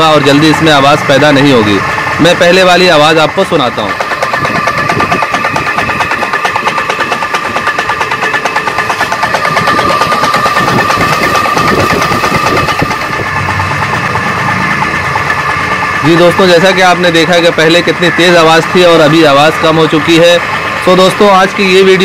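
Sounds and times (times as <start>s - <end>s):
pump motor whine: 0.0s - 22.0s
water pump rattling knock: 0.0s - 22.0s.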